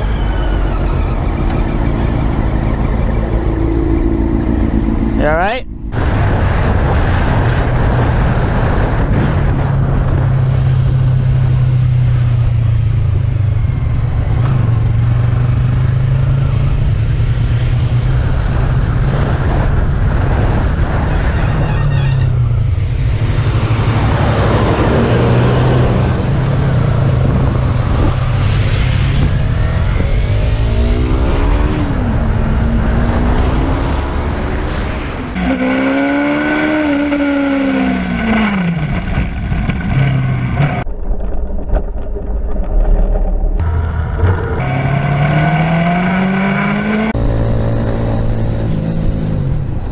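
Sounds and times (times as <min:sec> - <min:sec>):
motorcycle engine: 0:00.0 - 0:40.9, 0:41.8 - 0:49.9
wind rush: 0:00.0 - 0:44.6.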